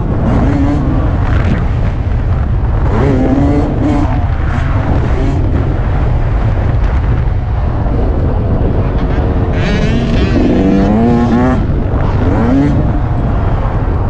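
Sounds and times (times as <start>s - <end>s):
dirt bike engine revving: 0.0s - 7.3s, 8.4s - 13.8s
wind noise on microphone: 0.0s - 14.0s.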